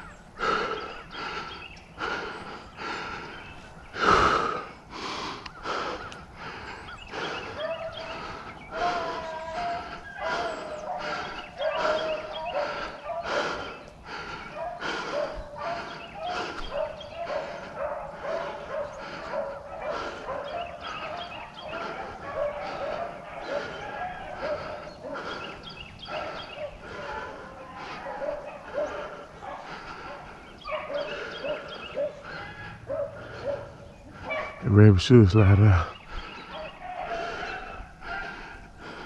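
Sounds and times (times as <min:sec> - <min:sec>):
hounds baying: 0:00.0 - 0:39.0.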